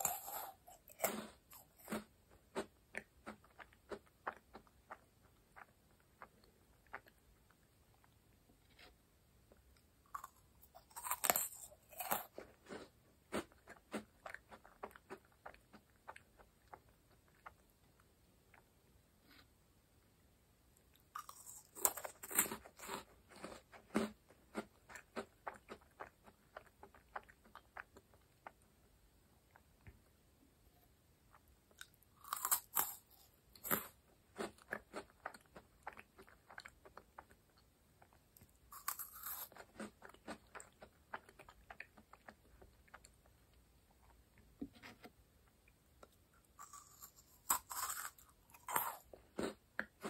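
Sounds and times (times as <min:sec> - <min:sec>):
chewing crisp cookie: 0:00.0 - 0:19.5, 0:20.7 - 0:30.2, 0:31.2 - 0:44.5, 0:45.4 - 0:50.0.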